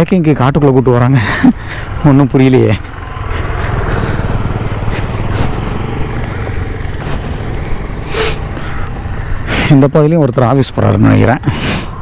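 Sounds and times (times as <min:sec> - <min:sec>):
motorbike engine running: 0:00.3 - 0:12.0.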